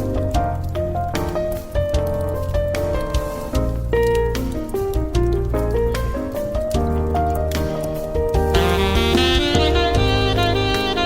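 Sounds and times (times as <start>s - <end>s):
piano or saxophone melody: 0.0s - 11.0s
walking bass line: 0.0s - 11.0s.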